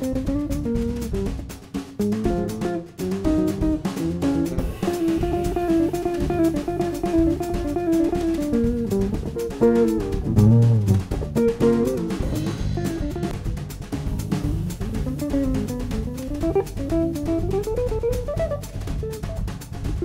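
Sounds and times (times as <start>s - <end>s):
bass guitar: 0.0s - 20.0s
drum kit: 0.0s - 20.0s
electric guitar melody: 0.0s - 20.0s.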